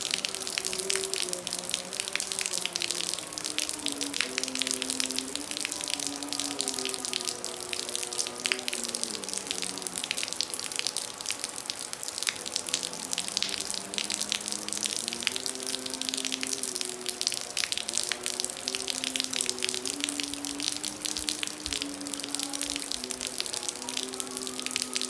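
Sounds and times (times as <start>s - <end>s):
heavy rain pouring: 0.0s - 25.0s
soft melody of long held notes: 0.0s - 25.0s.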